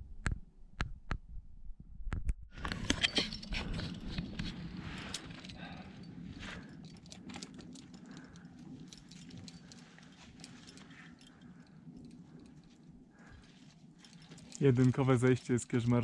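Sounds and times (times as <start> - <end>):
climbing gear clinking: 2.6 - 16.0.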